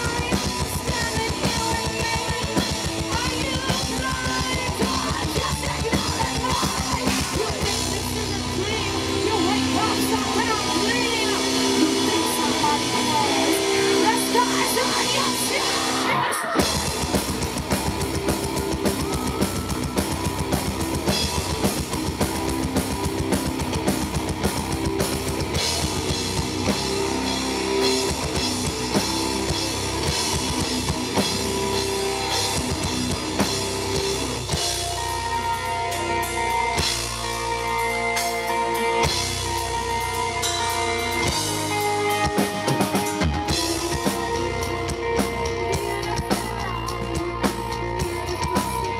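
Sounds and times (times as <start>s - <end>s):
bass guitar: 0.0s - 48.9s
drum kit: 0.0s - 48.9s
electric guitar: 0.0s - 48.9s.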